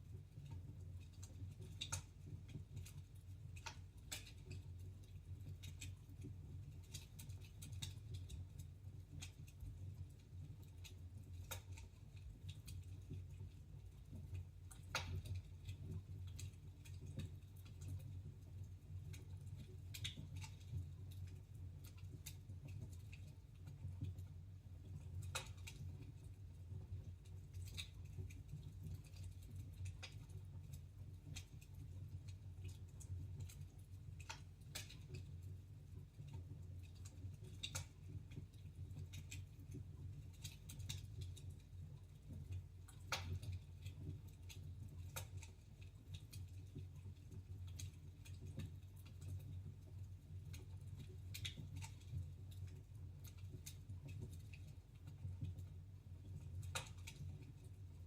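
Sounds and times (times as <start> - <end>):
fire crackling and popping: 0.0 - 58.0
low rumble of burning: 0.0 - 58.0.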